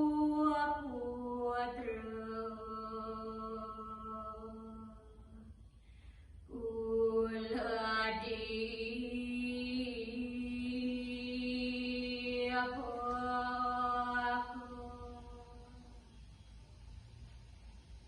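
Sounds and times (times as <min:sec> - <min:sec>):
person chanting verse: 0:00.0 - 0:05.6, 0:06.5 - 0:16.1.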